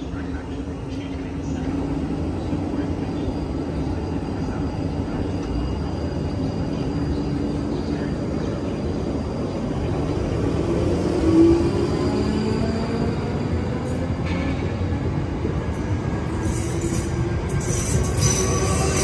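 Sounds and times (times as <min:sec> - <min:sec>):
train wheels rumbling: 0:00.8 - 0:19.0.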